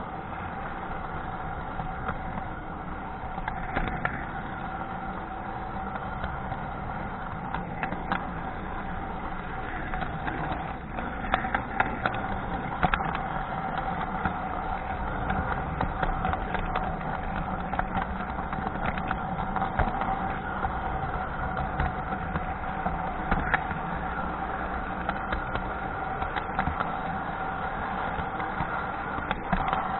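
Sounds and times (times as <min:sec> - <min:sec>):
electric motor whine: 0:00.0 - 0:29.9
wheels clicking on track: 0:00.0 - 0:29.9
wheels rumbling on track: 0:00.0 - 0:29.9.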